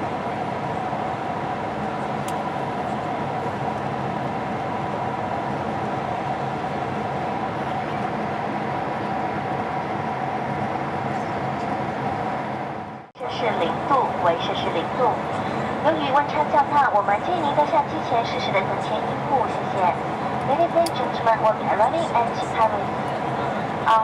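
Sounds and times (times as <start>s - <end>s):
constant high whine: 0.0s - 24.0s
jet engine hum: 0.0s - 24.0s.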